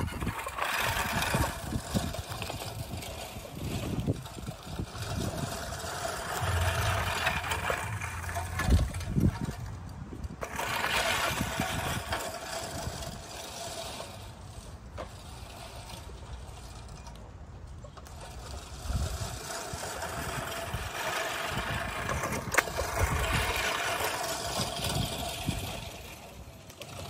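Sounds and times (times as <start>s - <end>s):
reel mower blades whirring: 0.0s - 27.0s.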